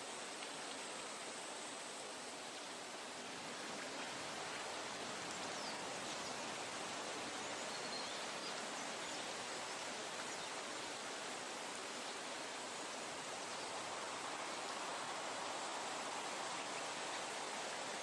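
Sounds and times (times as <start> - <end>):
steady forest hiss: 0.0 - 18.0.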